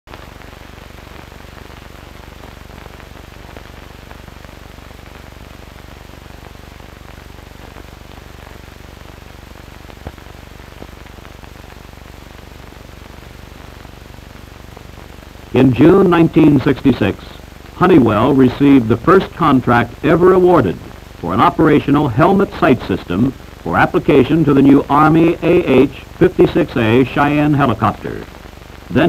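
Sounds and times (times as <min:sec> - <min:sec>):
faint crackles: 0:00.1 - 0:29.0
film soundtrack hiss and hum: 0:00.1 - 0:29.0.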